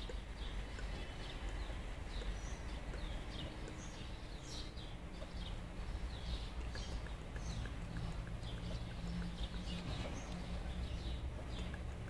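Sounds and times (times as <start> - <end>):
low steady rumble: 0.0 - 12.0
small birds chirping: 0.0 - 12.0.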